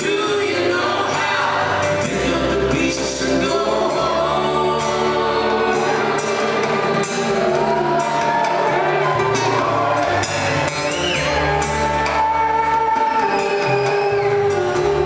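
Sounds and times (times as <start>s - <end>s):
bass line of held notes: 0.0s - 13.2s
acoustic guitars: 0.0s - 15.0s
person singing: 0.0s - 15.0s.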